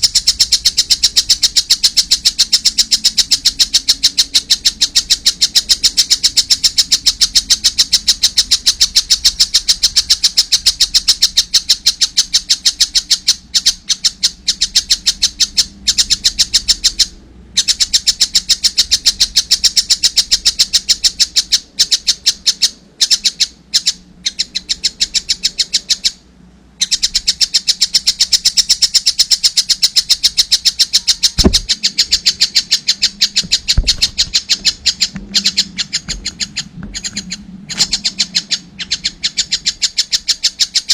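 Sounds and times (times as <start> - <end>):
kingfisher chick chirping: 0.0 - 26.2, 26.8 - 40.9.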